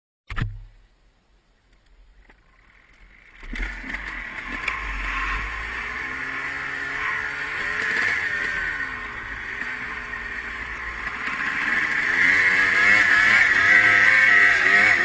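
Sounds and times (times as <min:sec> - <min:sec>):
dirt bike engine revving: 0:02.6 - 0:15.0.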